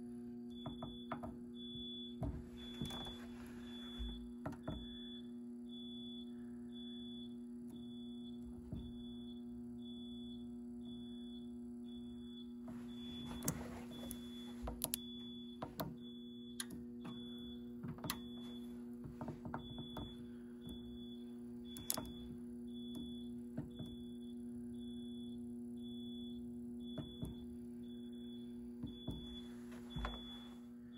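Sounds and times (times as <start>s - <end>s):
low steady hum: 0.0s - 30.9s.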